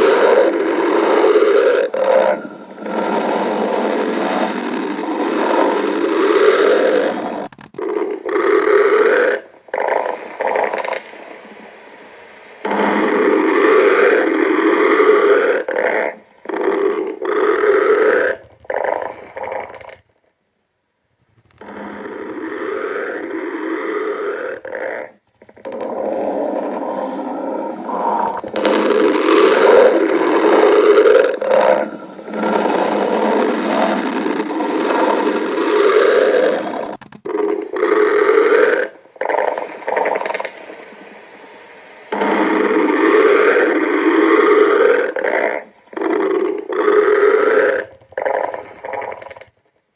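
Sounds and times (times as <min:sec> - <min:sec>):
stomach growling: 0:00.0 - 0:20.3, 0:21.0 - 0:41.2, 0:42.0 - 0:49.9.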